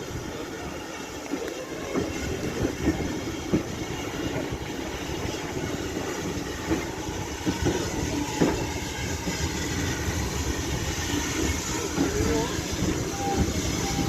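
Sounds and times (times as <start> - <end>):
train rumble: 0.0 - 14.0
wheels clacking on rail joints: 0.0 - 14.0.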